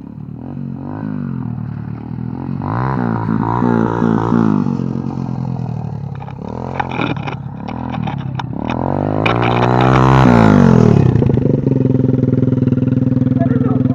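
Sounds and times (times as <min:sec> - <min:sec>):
motorbike engine revving and idling: 0:00.0 - 0:13.9.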